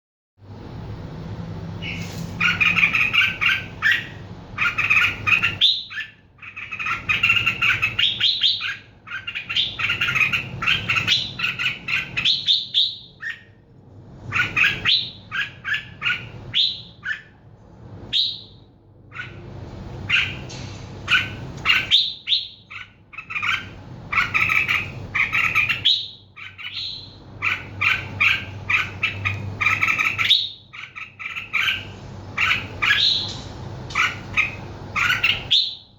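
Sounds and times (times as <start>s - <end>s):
bird singing chirps: 1.8s - 13.6s, 14.3s - 17.4s, 18.1s - 19.4s, 21.1s - 33.4s, 34.0s - 35.9s.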